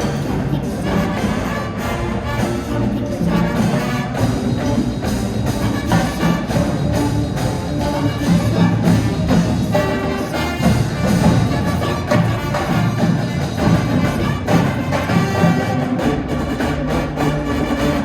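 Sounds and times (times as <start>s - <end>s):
brass and woodwind chords: 0.0s - 18.0s
drum and percussion hits: 0.0s - 18.0s.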